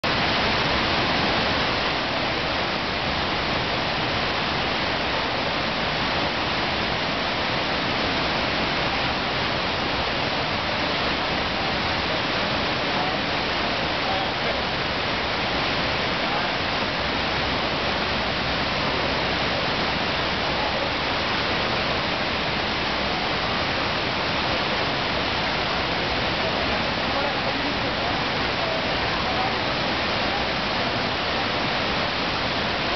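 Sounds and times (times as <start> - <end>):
rush of water: 0.0 - 32.9.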